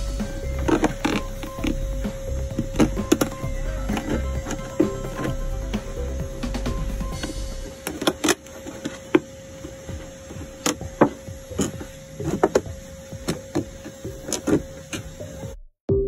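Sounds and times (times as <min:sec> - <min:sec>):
faint steady hum: 0:00.0 - 0:15.6.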